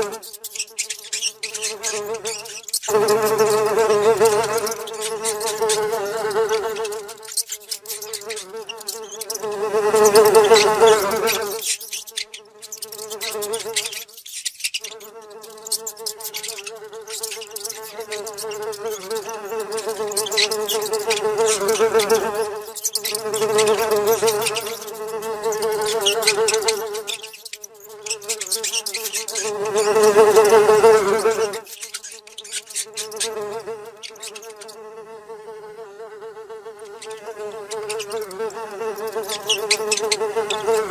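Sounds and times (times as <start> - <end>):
fly buzzing: 0.0 - 40.9.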